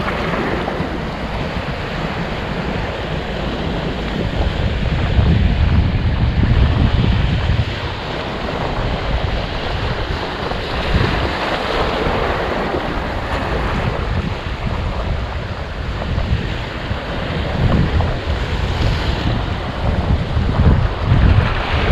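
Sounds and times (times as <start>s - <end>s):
sea waves breaking: 0.0s - 21.9s
wind buffeting microphone: 0.0s - 21.9s.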